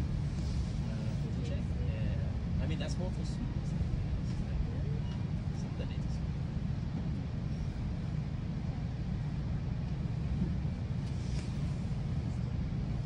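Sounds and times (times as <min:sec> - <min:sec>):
train coach rumbling on track: 0:00.0 - 0:13.0.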